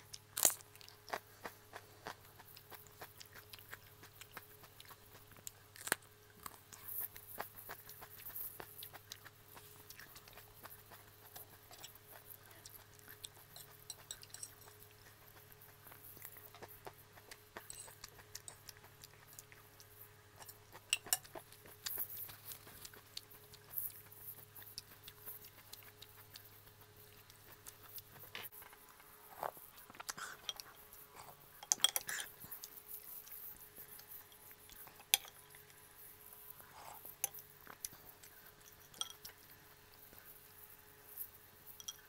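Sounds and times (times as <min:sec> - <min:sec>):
faint steady hum: 0:00.0 - 0:42.0
person chewing: 0:00.0 - 0:42.0.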